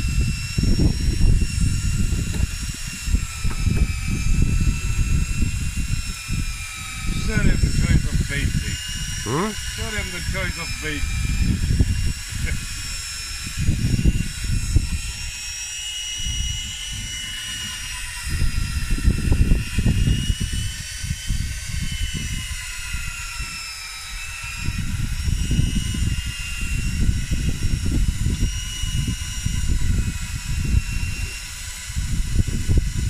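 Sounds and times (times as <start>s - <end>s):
thin high wavering whine: 0.0s - 33.0s
wind buffeting microphone: 0.0s - 33.0s.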